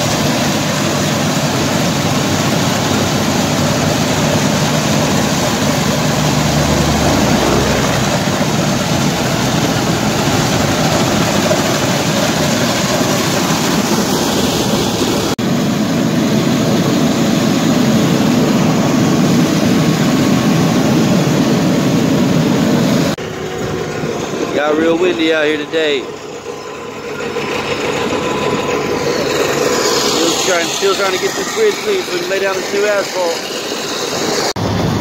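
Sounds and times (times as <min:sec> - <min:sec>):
surface grinder engine and grinding: 0:00.0 - 0:34.8.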